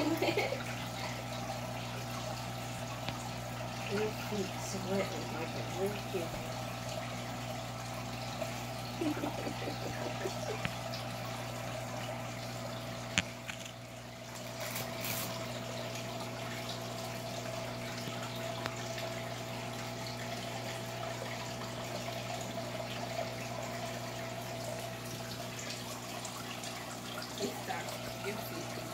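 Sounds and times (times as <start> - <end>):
aquarium filter hum: 0.0 - 28.9
water trickling into tank: 0.0 - 28.9.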